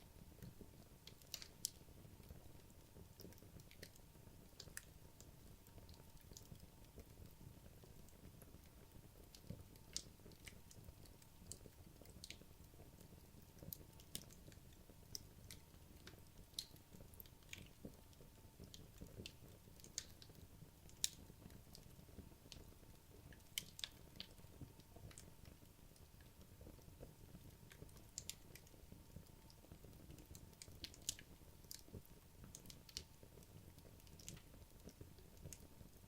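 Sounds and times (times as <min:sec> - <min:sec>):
fire crackling and popping: 0:00.1 - 0:36.0.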